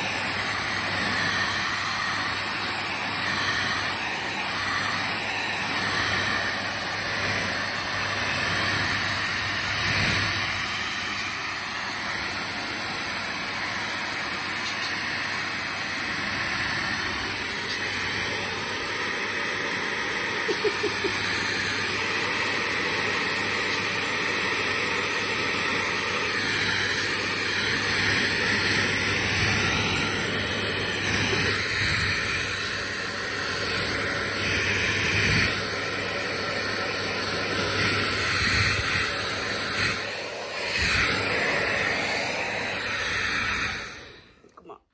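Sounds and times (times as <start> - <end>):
hair dryer running: 0.0 - 44.8.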